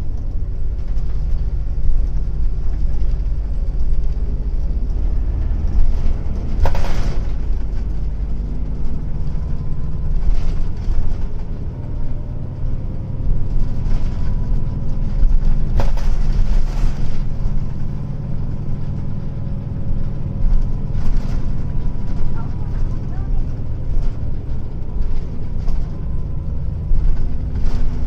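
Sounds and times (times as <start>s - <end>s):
bus diesel engine rumble: 0.0s - 28.0s.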